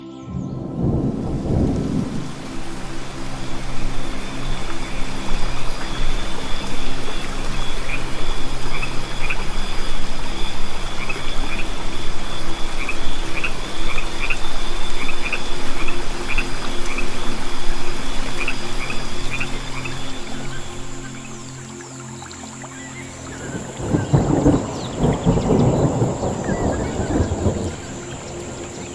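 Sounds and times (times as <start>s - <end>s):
steady hiss: 0.7s - 28.9s.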